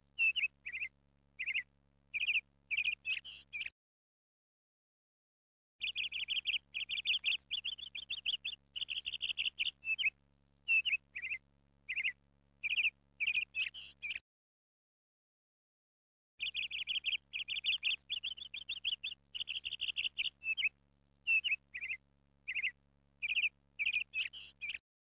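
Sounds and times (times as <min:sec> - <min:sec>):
birds chirping and trilling: 0:00.2 - 0:03.7, 0:05.8 - 0:14.2, 0:16.4 - 0:24.8.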